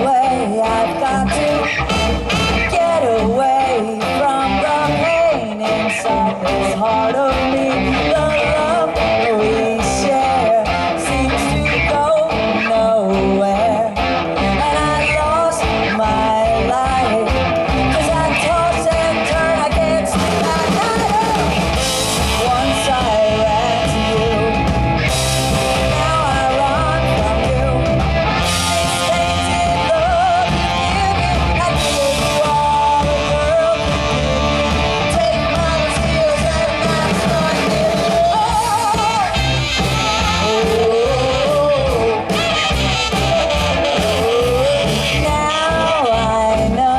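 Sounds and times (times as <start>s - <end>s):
bass: 0.0s - 46.9s
drums: 0.0s - 46.9s
electric guitar: 0.0s - 46.9s
person singing: 0.0s - 46.9s.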